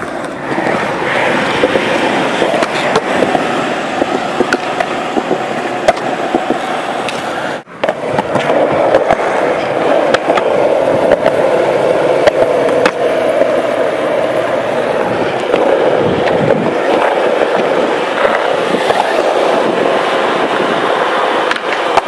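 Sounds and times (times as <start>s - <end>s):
skateboard clicks and knocks: 0.0s - 22.0s
skateboard wheels rolling on concrete: 0.0s - 22.0s.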